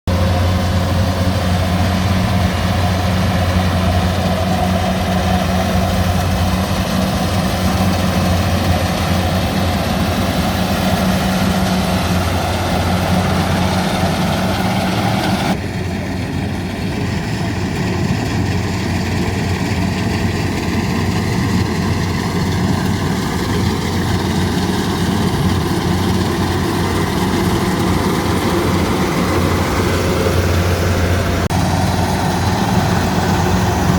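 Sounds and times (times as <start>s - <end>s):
harvester engine humming: 0.1s - 33.9s.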